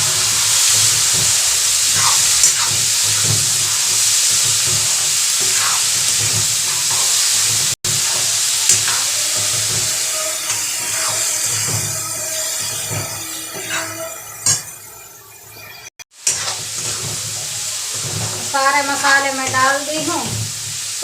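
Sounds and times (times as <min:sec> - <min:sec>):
vegetables sizzling in hot oil: 0:00.0 - 0:21.0
spoon scraping a pan: 0:00.5 - 0:14.8, 0:16.2 - 0:21.0.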